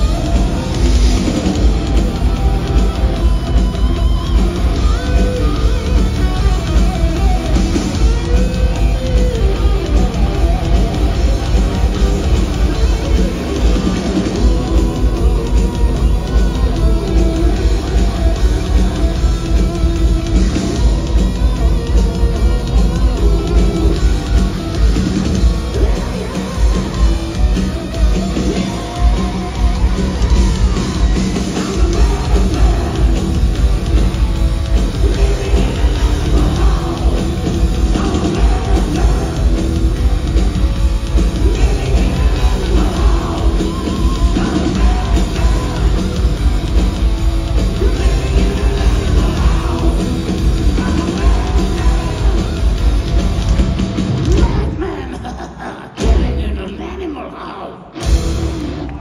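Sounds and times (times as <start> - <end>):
drum kit: 0.0 - 55.2, 56.0 - 56.6, 58.0 - 59.0
bass: 0.0 - 55.3, 58.0 - 59.0
distorted electric guitars: 0.0 - 57.0, 57.7 - 59.0
lead vocals: 0.0 - 59.0.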